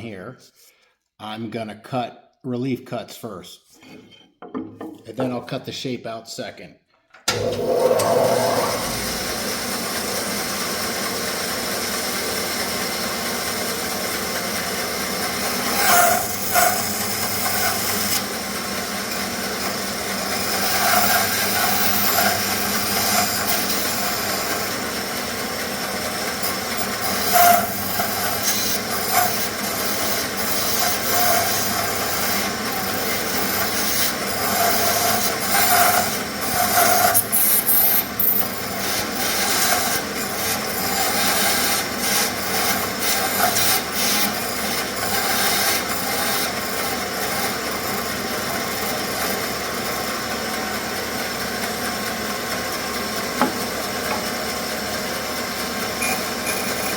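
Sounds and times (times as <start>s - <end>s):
bandsaw cutting wood: 7.3s - 50.3s, 53.3s - 54.9s, 55.7s - 56.9s.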